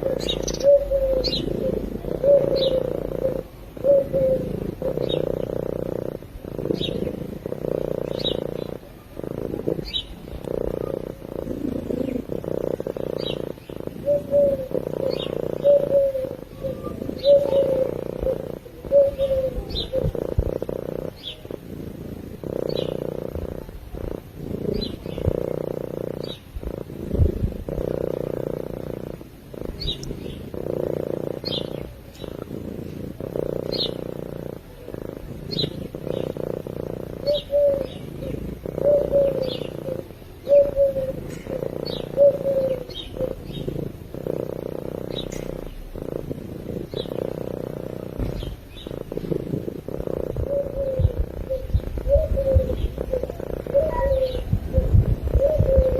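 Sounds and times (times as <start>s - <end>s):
cat purring: 0.0s - 55.9s.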